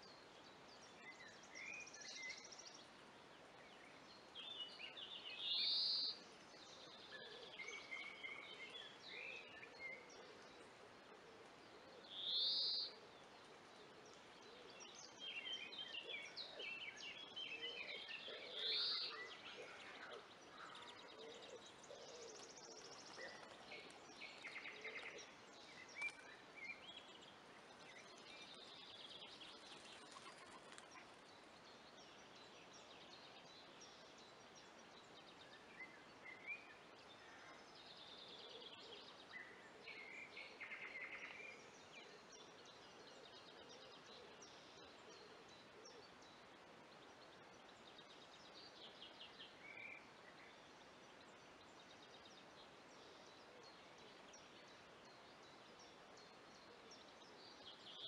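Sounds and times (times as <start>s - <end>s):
faint songbird calls: 0.0s - 58.0s
steady outdoor hiss: 0.0s - 58.0s.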